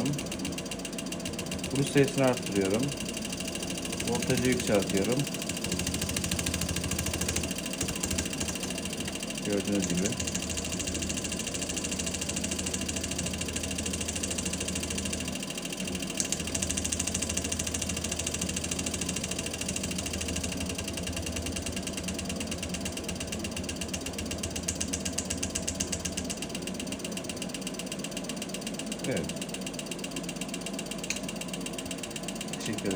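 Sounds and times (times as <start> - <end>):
solenoid valve clicking rapidly: 0.0 - 32.9.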